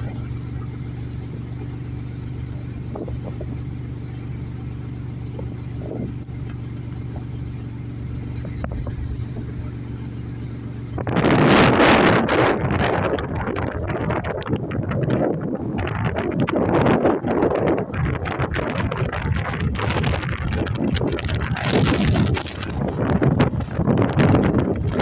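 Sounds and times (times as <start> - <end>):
vehicle engine idling: 0.0 - 25.0
wind on microphone: 2.5 - 3.7, 5.2 - 25.0.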